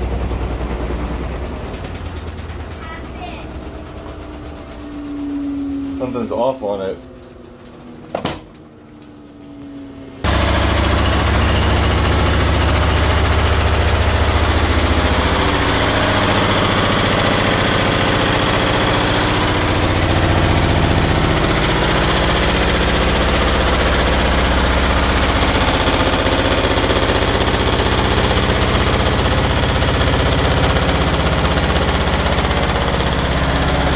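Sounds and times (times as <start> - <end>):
washing machine shaking on spin: 0.0 - 8.1, 10.2 - 33.9.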